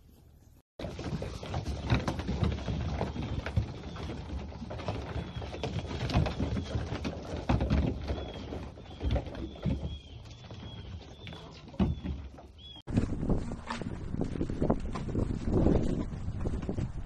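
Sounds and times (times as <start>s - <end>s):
hooves knocking on wooden boards: 0.8s - 17.0s.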